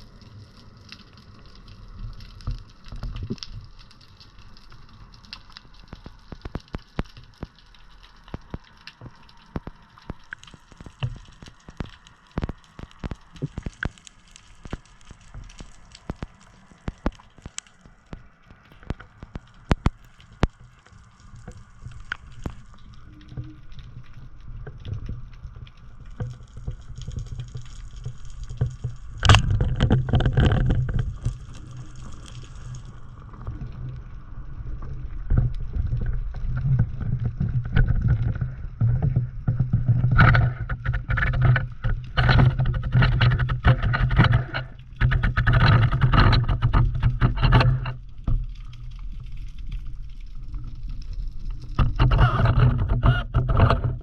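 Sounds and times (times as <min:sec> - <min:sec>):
underwater rumble with sloshing: 0:00.0 - 0:54.0.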